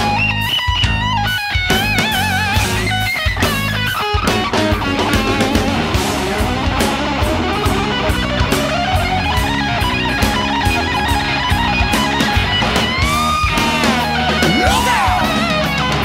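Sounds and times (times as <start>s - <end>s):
distorted electric guitar: 0.0s - 16.0s
hard rock band instrumental: 0.0s - 16.0s.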